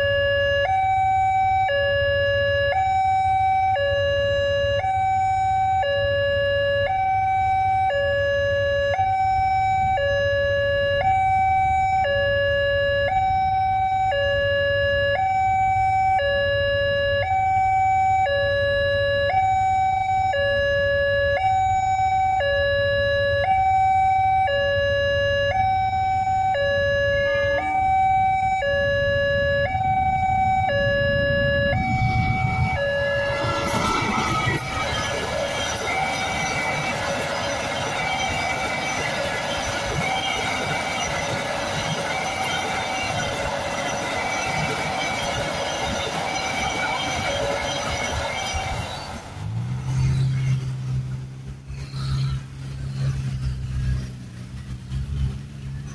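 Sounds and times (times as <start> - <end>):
level crossing two-tone siren: 0.0 - 49.2
diesel locomotive rumble: 0.0 - 55.9.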